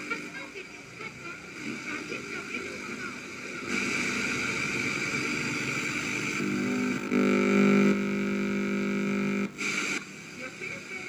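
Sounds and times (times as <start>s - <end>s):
buzzy television speaker sound: 0.0s - 11.0s.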